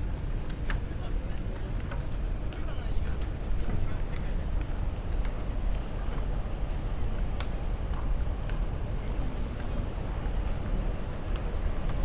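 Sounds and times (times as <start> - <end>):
city street rumble: 0.0 - 12.0.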